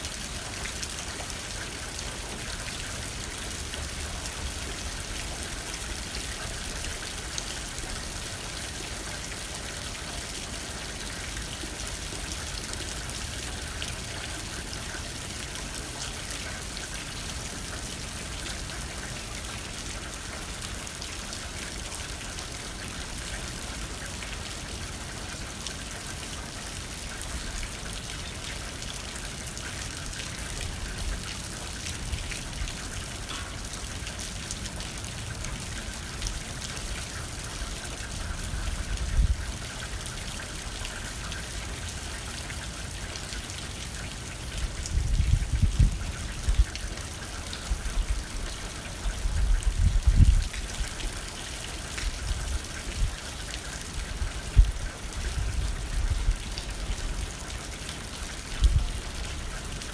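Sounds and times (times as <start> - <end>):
light wind: 0.0 - 59.9.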